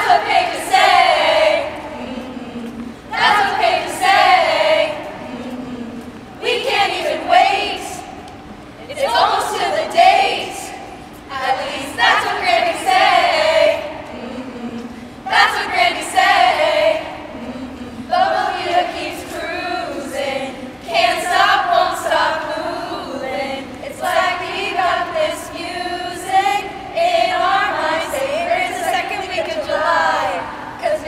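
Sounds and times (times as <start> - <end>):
women singing together: 0.0 - 31.0.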